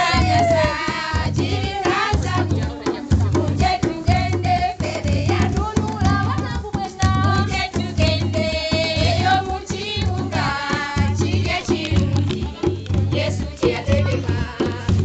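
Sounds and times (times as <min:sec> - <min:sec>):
women singing together: 0:00.0 - 0:15.0
wooden hand drums beating: 0:00.0 - 0:15.0.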